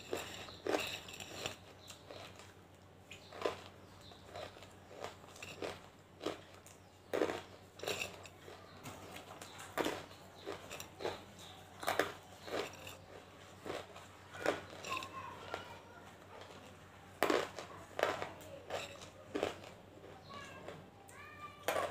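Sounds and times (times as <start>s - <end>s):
hard pieces crunching when chewed: 0.0s - 21.9s.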